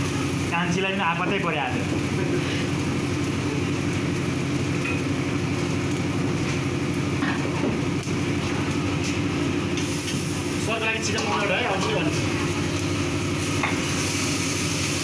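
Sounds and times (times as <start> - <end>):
gas burner roaring: 0.0 - 15.0.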